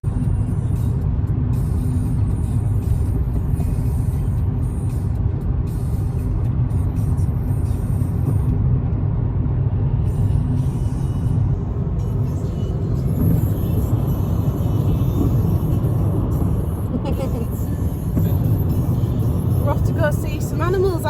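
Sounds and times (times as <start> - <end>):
road rumble inside car: 0.0 - 21.0.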